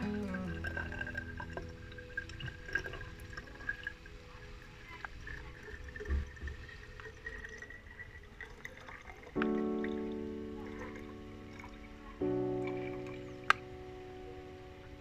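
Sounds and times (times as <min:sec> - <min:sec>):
liquid trickling through strainer: 0:00.0 - 0:13.6
faint background music: 0:00.0 - 0:15.0.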